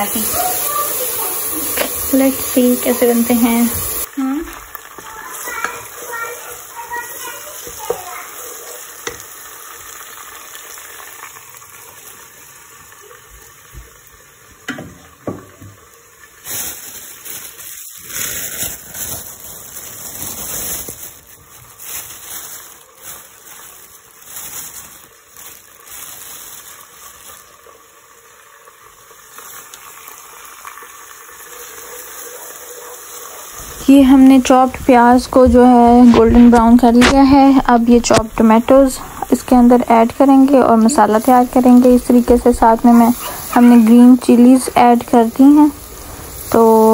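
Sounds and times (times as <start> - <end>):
onions sizzling in oil: 0.0 - 46.9.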